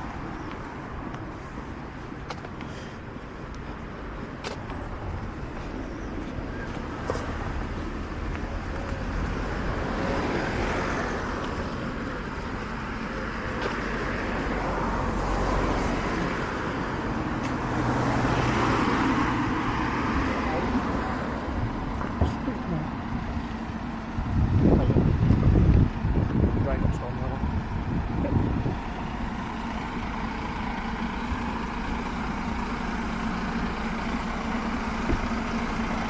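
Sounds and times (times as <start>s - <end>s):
cars passing by: 0.0s - 36.0s
engine low hum: 0.0s - 36.0s.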